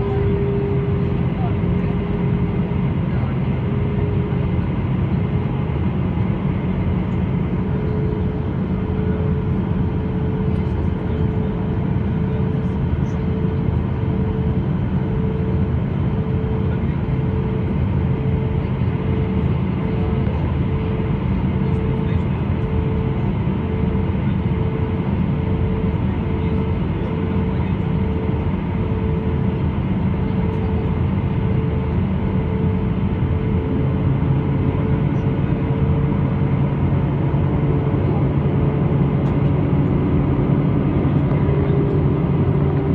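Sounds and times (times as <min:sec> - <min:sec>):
aircraft cabin engine rumble: 0:00.0 - 0:42.9
mid-pitched hum tone: 0:00.0 - 0:42.9.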